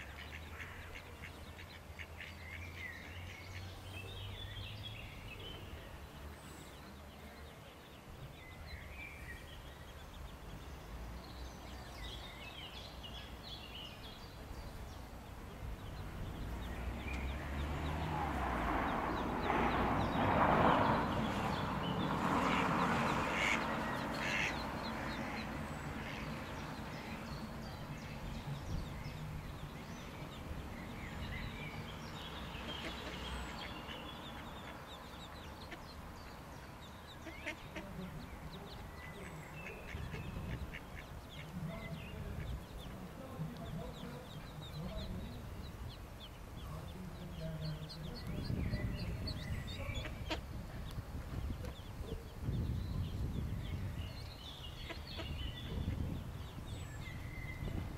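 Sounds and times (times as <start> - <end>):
ducklings peeping: 0.0 - 4.7, 11.6 - 57.9.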